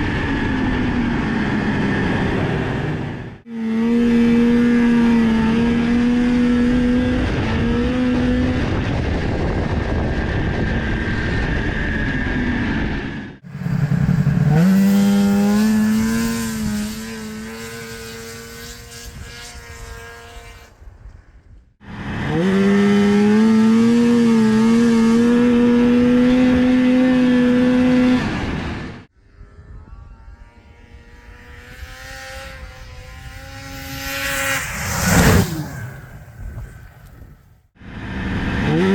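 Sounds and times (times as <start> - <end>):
snowmobile engine revving high: 0.0 - 20.7, 21.8 - 38.9.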